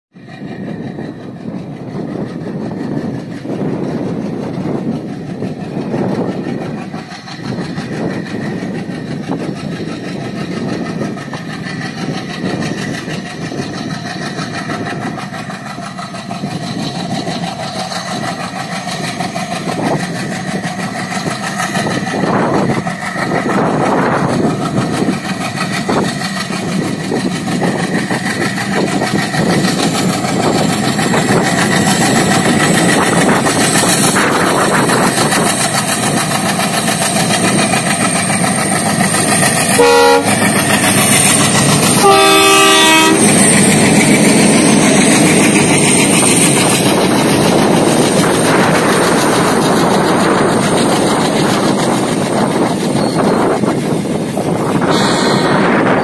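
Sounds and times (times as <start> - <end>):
diesel locomotive engine running: 0.1 - 56.0.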